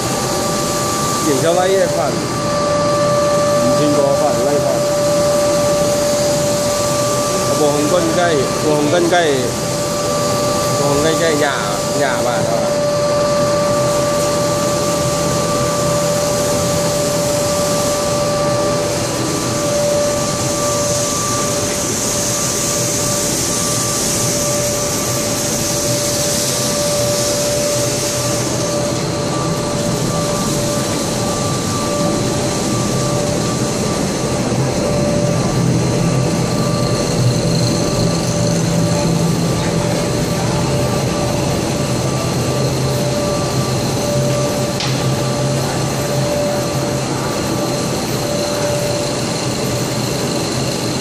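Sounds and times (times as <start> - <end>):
industrial machinery hum: 0.0 - 51.0.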